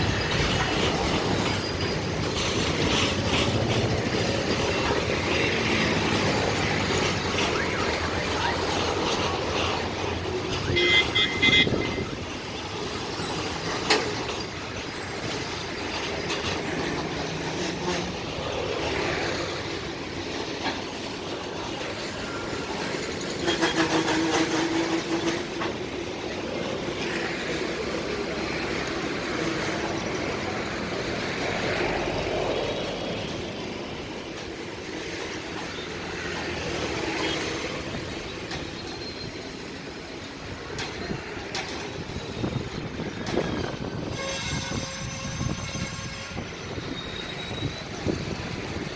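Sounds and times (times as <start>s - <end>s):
high wheel squeals: 0.0s - 19.6s, 27.0s - 48.9s
freight train wagons rolling past: 0.0s - 48.9s
wheel rumble and rail clatter: 0.0s - 48.9s.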